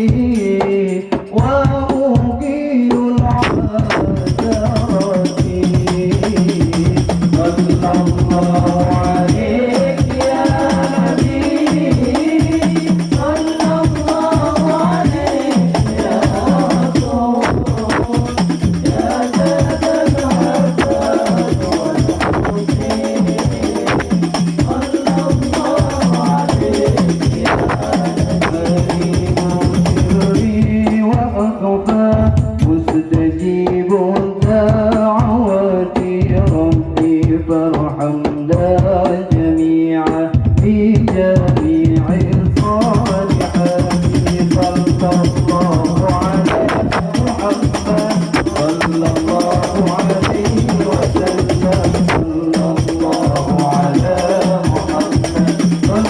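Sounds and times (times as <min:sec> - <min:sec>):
hand drums: 0:00.0 - 0:56.0.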